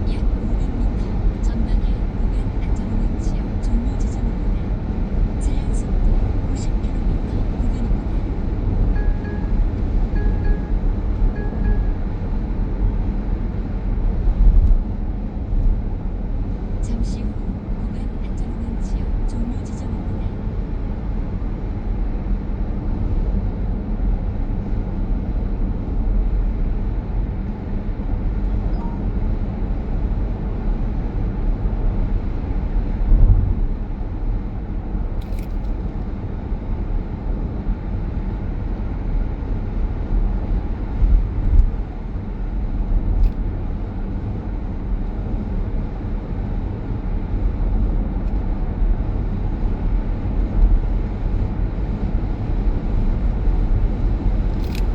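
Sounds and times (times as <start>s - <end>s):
road and tyre rumble in car cabin: 0.0s - 54.9s.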